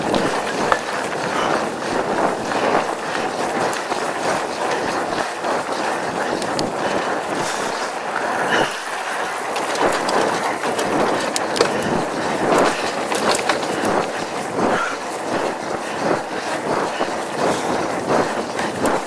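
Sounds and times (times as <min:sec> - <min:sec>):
bike clicking and rattling: 0:00.0 - 0:19.0
bike tyres rolling on dirt: 0:00.0 - 0:19.0.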